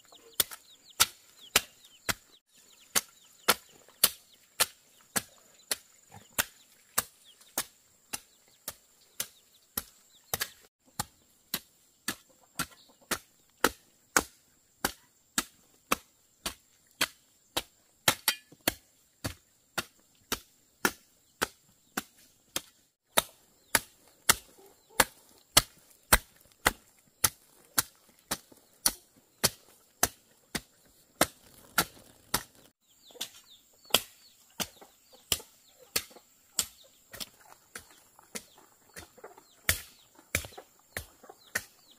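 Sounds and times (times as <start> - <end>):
blade chopping greens: 0.4 - 41.8.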